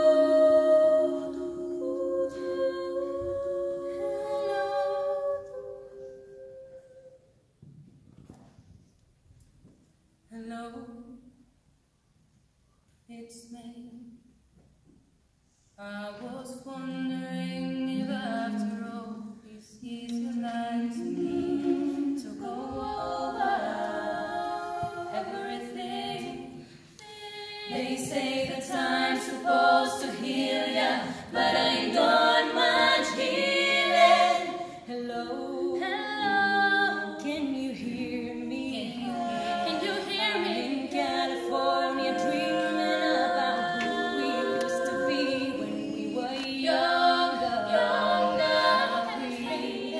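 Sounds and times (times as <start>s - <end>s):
women singing a cappella: 0.0s - 7.4s, 10.3s - 11.4s, 15.6s - 49.9s.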